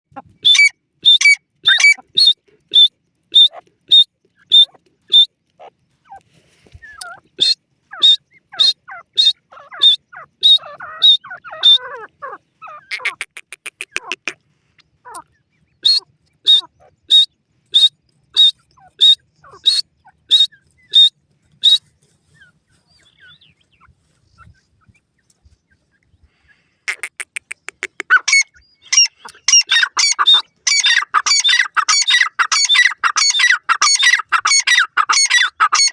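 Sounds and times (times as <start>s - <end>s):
francolin calling: 0.2s - 25.0s, 26.3s - 35.9s.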